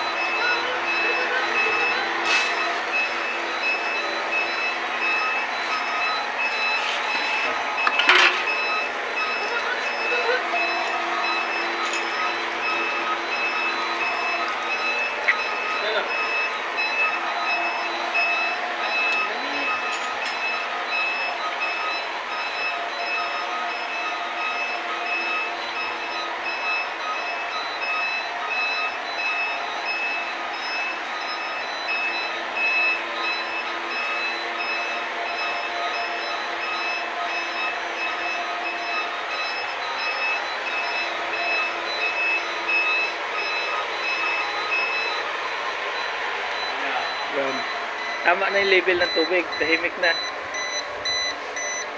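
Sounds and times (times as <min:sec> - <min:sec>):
alarm beeping rapidly: 0:00.0 - 0:51.9.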